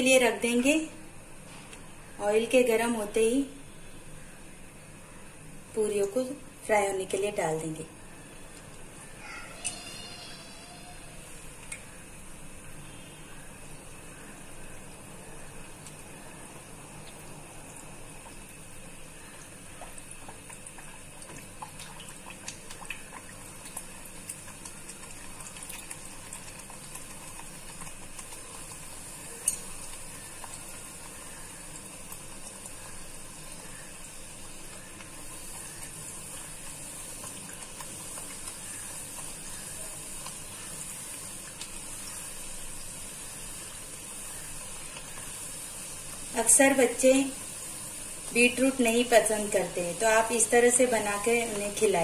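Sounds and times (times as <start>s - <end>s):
food deep-frying in hot oil: 0.0s - 52.0s.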